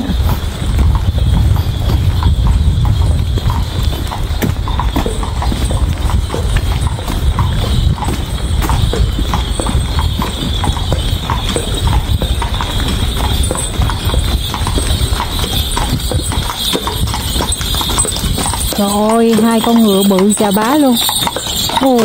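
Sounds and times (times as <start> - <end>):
horse hooves clip-clopping: 0.0 - 22.0.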